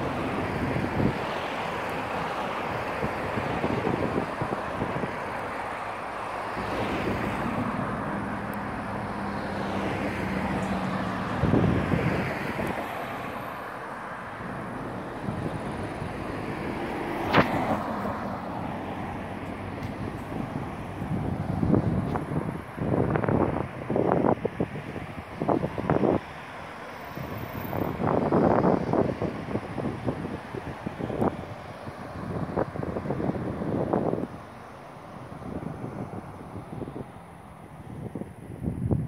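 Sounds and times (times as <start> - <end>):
wind on microphone: 0.0 - 5.7, 6.5 - 13.7, 14.4 - 39.0
engine hum: 0.0 - 39.0
vehicle noise: 0.0 - 39.0.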